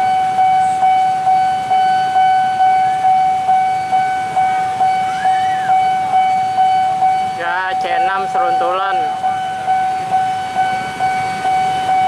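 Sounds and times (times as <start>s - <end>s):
level crossing bell ringing: 0.0s - 12.0s.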